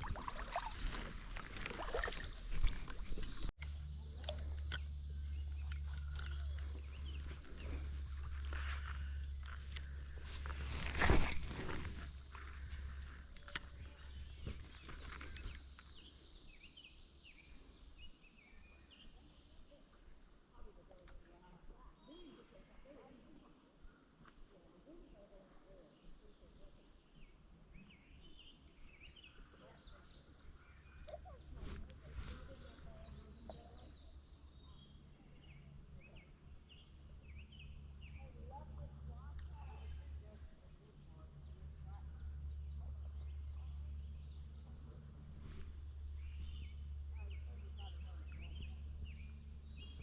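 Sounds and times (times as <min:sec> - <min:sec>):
faint low rumble: 0:00.0 - 0:16.8, 0:17.4 - 0:50.0.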